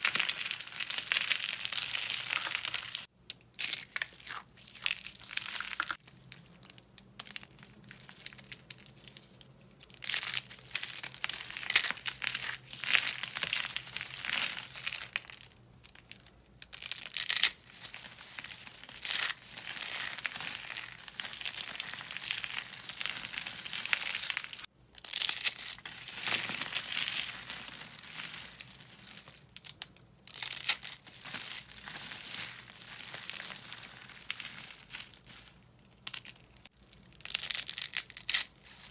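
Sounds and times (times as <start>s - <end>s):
dry soap crunching: 0.0s - 38.9s.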